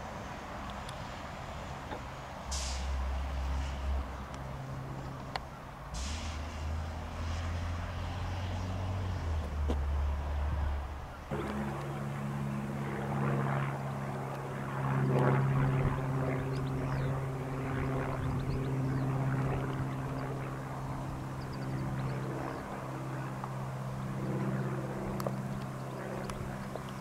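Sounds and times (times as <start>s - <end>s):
engine drone: 1.9s - 27.0s.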